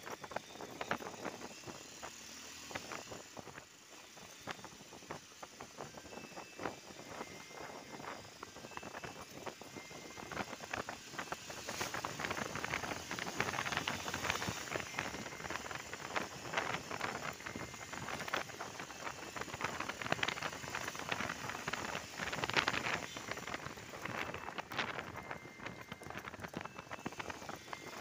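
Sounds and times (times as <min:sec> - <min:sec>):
wind and road noise: 0:00.0 - 0:28.0.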